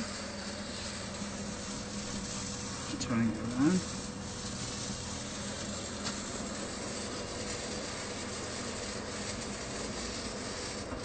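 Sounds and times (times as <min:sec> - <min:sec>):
fan and drill whirring: 0:00.0 - 0:11.0.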